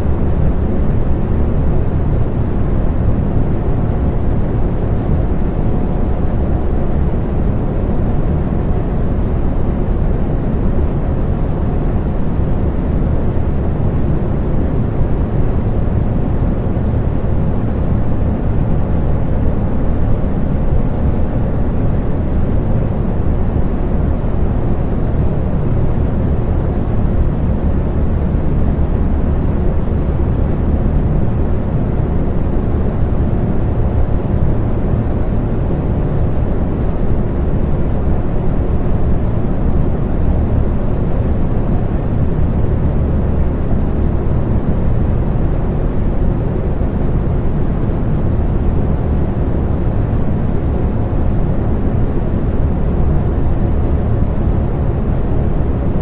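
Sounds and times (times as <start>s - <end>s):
faint fan hum: 0.0s - 56.0s.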